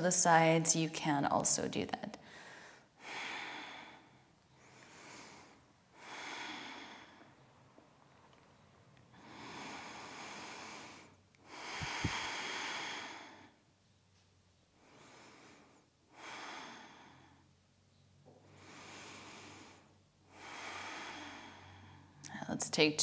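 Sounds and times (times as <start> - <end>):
woman breathing deeply: 2.2 - 13.8, 14.7 - 17.6, 18.3 - 22.3.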